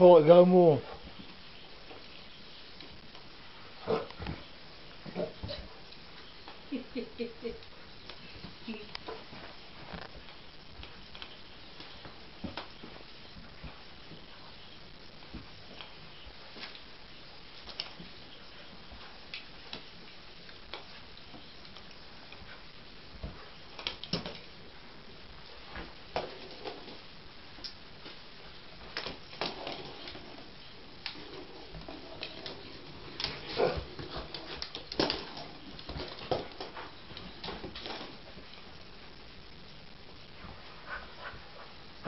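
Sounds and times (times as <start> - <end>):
dog paws scuffling: 7.8 - 42.0.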